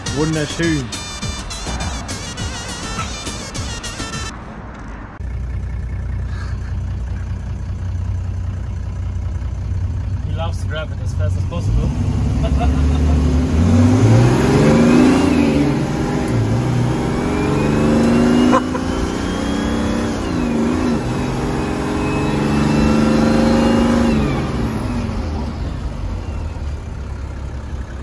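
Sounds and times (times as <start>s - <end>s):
van engine accelerating: 0.0s - 28.0s.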